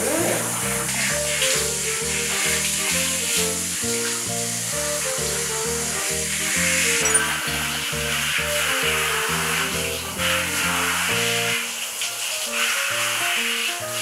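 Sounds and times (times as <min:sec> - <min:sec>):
background music: 0:00.0 - 0:14.0
shower head spraying water: 0:00.0 - 0:14.0.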